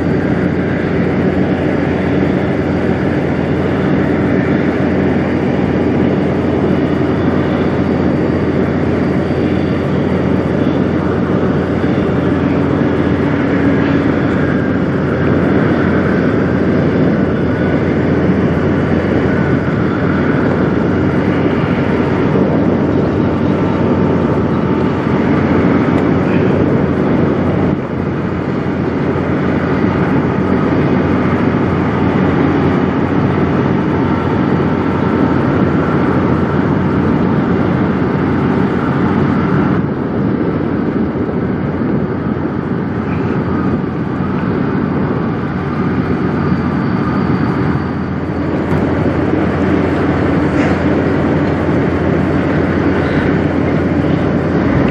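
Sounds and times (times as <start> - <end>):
truck diesel engine running: 0.0 - 54.9.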